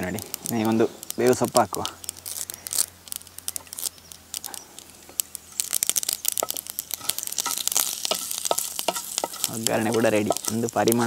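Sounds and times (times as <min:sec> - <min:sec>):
mustard seeds spluttering in hot oil: 0:00.0 - 0:11.0.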